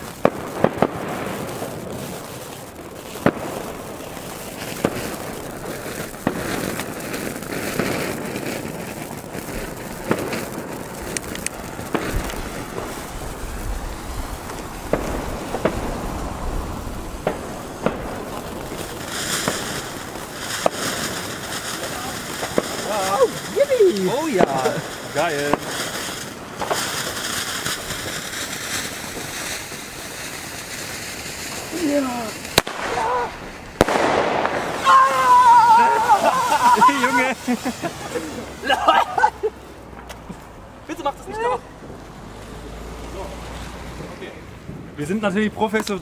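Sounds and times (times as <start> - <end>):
firework fountains hissing and crackling: 0.0 - 46.0
sharp firework bangs: 0.0 - 46.0.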